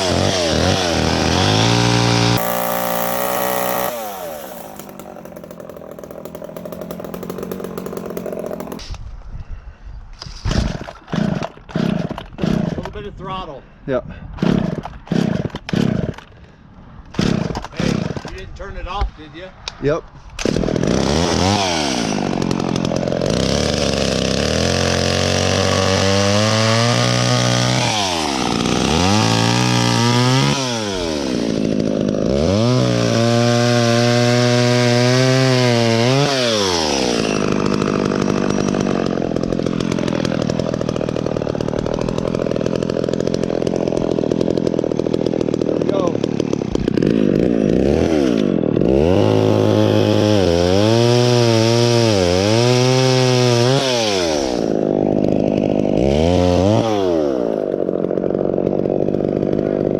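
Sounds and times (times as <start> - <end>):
chainsaw revving: 0.0 - 9.0, 11.1 - 12.8, 14.4 - 16.2, 20.4 - 59.9.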